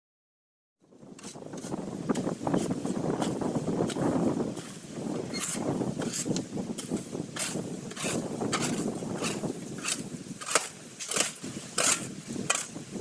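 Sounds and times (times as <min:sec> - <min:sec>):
hoes scraping through peanut shells: 0:01.2 - 0:12.8.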